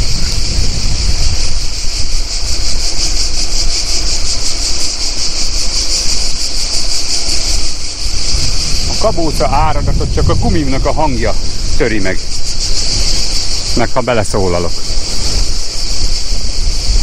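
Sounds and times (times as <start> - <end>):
bicycle tyres rolling on road: 0.0 - 17.0
cicadas buzzing: 0.0 - 17.0.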